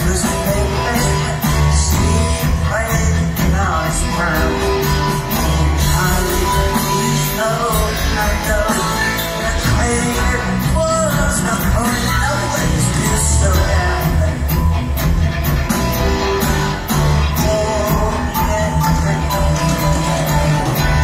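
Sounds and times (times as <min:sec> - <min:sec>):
bass guitar: 0:00.0 - 0:21.0
drums: 0:00.0 - 0:21.0
electric guitars: 0:00.0 - 0:21.0
keyboards: 0:00.0 - 0:21.0.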